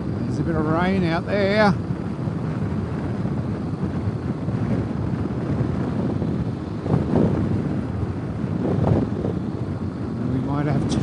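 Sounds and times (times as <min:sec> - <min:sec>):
wind buffeting on microphone: 0:00.0 - 0:11.0.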